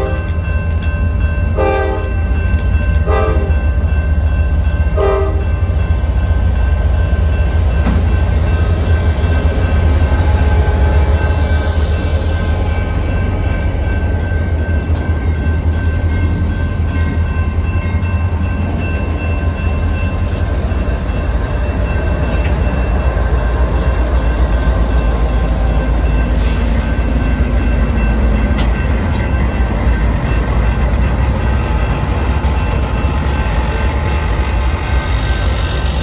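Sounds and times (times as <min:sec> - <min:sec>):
locomotive engine rumbling: 0:00.0 - 0:36.0.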